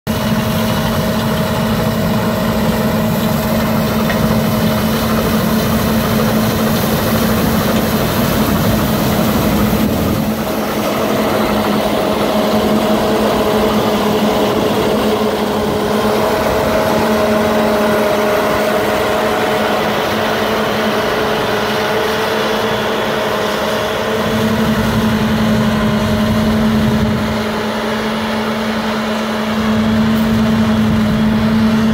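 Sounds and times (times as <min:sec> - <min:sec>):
combine harvester droning: 0:00.1 - 0:31.9.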